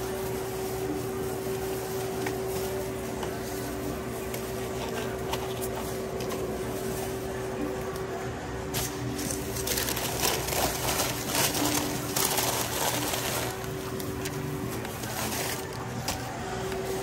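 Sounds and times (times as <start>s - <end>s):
paper wrap crinkling: 0.0s - 17.0s.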